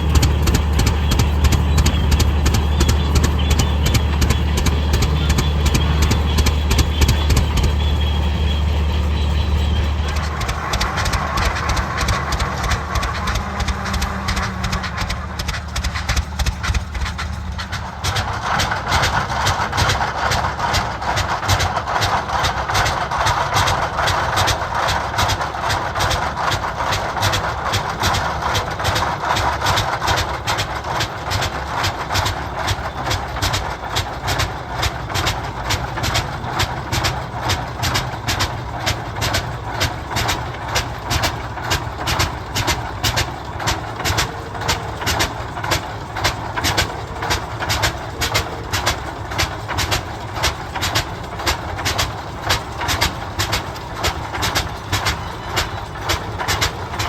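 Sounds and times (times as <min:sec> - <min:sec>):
rushing noise: 0:00.0 - 0:57.0
tractor engine running: 0:00.0 - 0:57.0.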